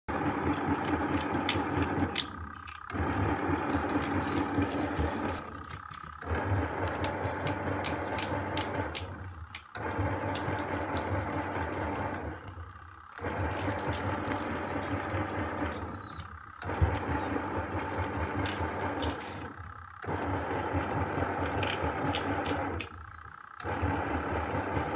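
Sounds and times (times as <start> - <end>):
washing machine motor humming: 0.0 - 24.9.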